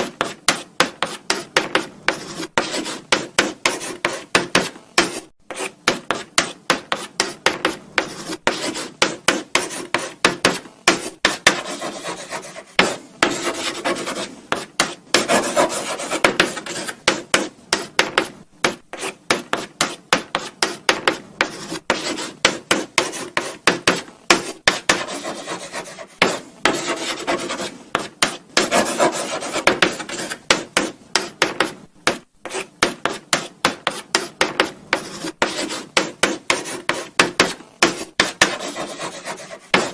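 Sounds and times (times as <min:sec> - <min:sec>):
chalk scratching on blackboard: 0:00.0 - 0:39.9.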